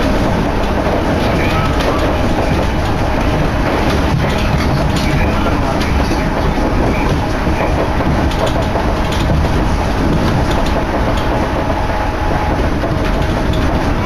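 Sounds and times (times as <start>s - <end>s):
train rolling noise: 0.0s - 14.0s
faint rail clicks: 0.6s - 14.0s.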